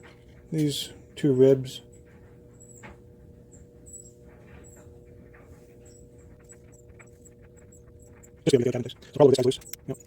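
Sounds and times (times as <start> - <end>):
soft scratching and handling: 0.0 - 9.8
faint electrical hum: 0.0 - 10.0.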